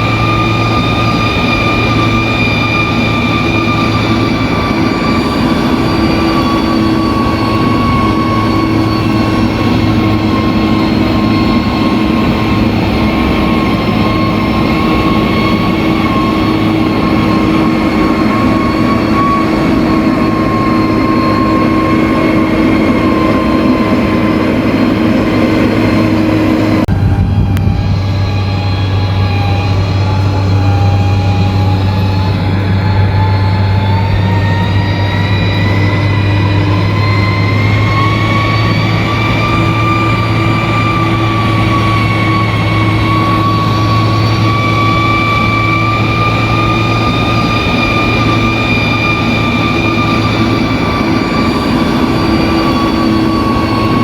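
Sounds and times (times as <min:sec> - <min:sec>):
bulldozer diesel engine whining: 0:00.0 - 0:54.0.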